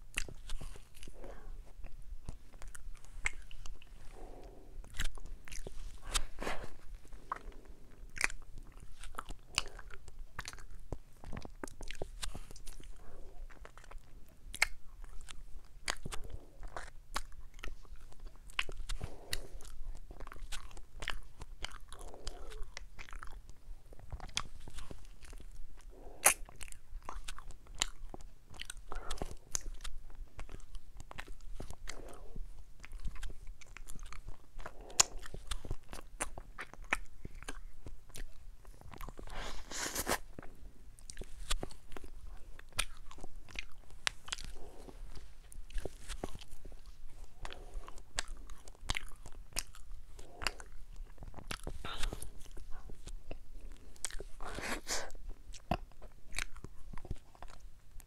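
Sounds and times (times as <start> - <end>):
soft chewing: 0.0 - 58.0.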